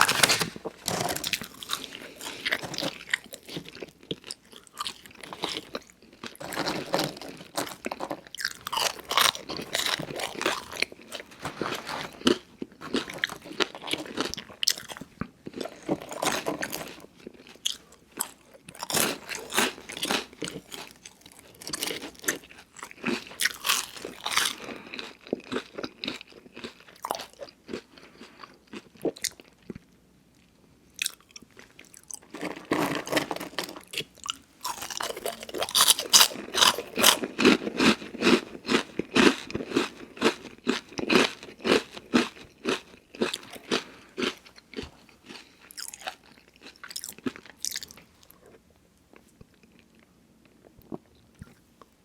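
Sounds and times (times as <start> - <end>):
crunchy eating and chewing: 0.0 - 52.0.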